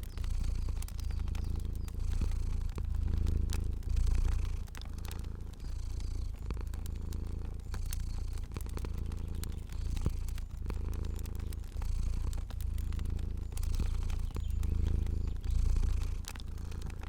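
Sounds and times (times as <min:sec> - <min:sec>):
cat purring: 0:00.0 - 0:17.0
fire crackling with snaps: 0:00.0 - 0:17.0.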